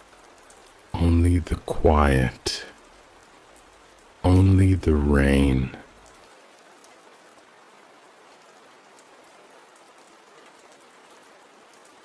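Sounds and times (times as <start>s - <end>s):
soft rain falling: 0.0s - 12.0s.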